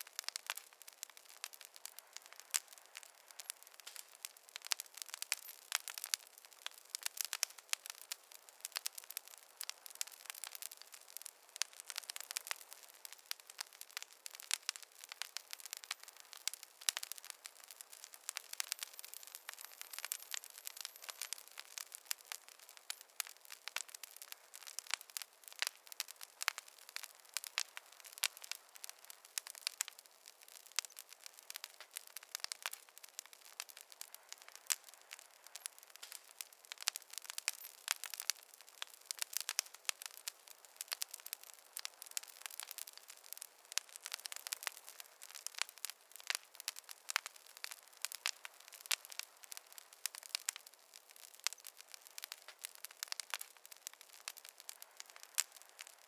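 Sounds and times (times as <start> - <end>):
campfire crackling and popping: 0.0 - 56.0
soft fire hiss: 0.0 - 56.0.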